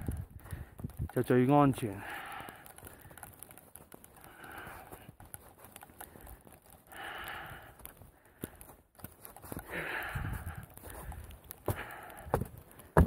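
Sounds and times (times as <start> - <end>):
person breathing slowly: 0.0 - 1.1, 1.8 - 13.0
small clicks in snow: 0.0 - 13.0.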